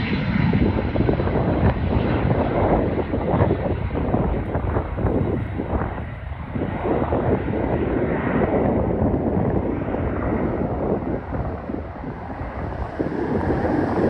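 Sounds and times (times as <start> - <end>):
jet engines at takeoff power: 0.0 - 14.0
wind buffeting microphone: 0.0 - 14.0.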